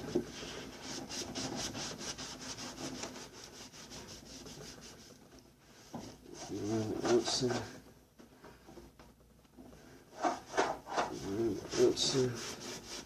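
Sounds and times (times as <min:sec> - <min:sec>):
paper towel scrubbing a surface: 0:00.0 - 0:07.8, 0:10.2 - 0:13.0.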